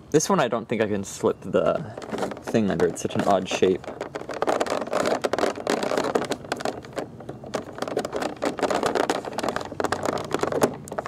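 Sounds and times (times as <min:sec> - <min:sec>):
plastic packaging crackling: 0:01.5 - 0:11.0.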